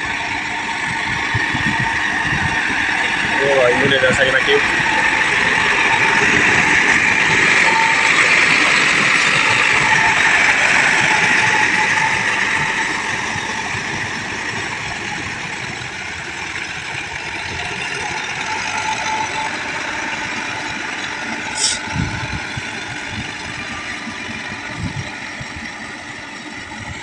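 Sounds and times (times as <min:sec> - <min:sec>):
churned water hissing: 0:00.0 - 0:22.0
tractor engine under load: 0:00.0 - 0:27.0.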